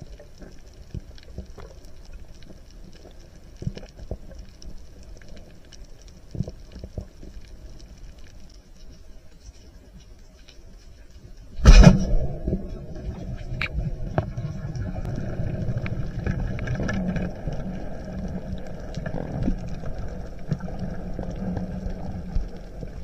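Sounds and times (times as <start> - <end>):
underwater low hum: 0.0 - 23.0.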